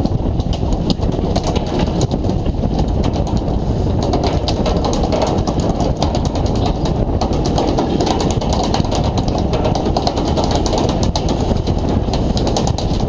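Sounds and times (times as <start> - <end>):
boat engine rumbling: 0.0 - 13.0
wind: 0.0 - 13.0.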